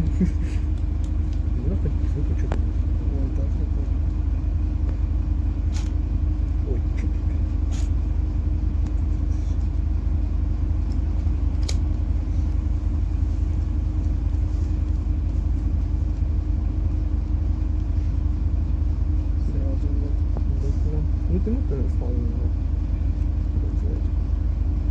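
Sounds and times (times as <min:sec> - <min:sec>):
bus engine rumble: 0:00.0 - 0:24.9.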